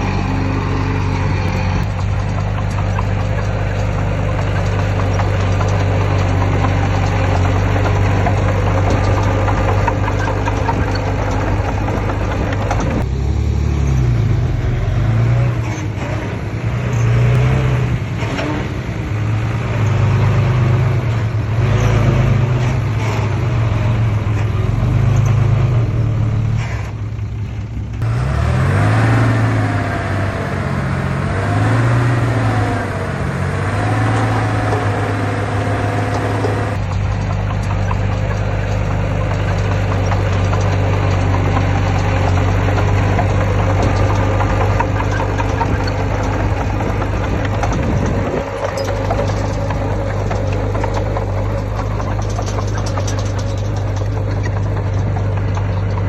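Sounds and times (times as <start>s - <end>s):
earthmoving machine diesel engines: 0.0s - 56.0s.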